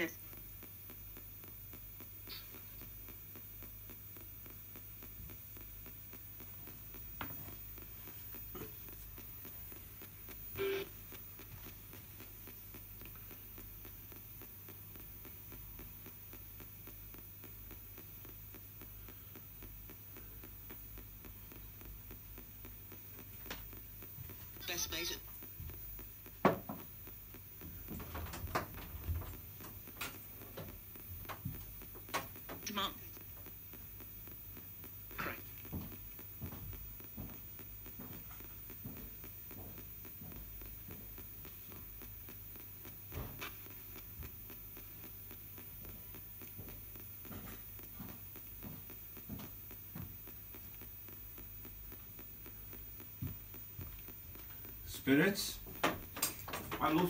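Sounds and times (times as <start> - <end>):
faint rapid ticking: 0.0 - 57.0
radio hum and hiss: 0.0 - 57.0.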